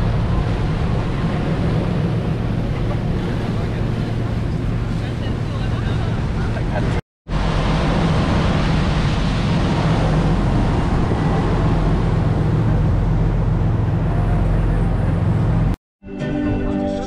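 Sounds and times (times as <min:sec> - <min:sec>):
boat engine drone: 0:00.0 - 0:15.8
rushing wake water: 0:00.0 - 0:15.8.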